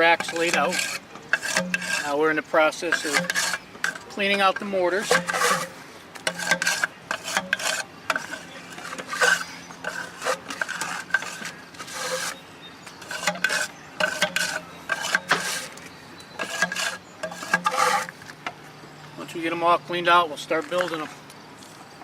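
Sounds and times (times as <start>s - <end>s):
scraping inside mortar tubes: 0.0s - 15.8s, 16.4s - 18.3s.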